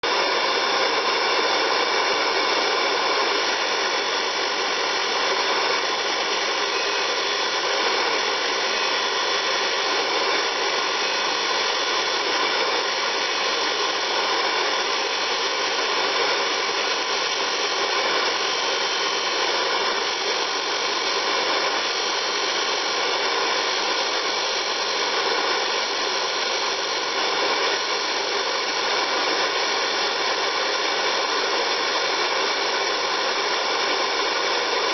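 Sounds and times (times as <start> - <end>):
grinding machine whining: 0.0 - 34.9.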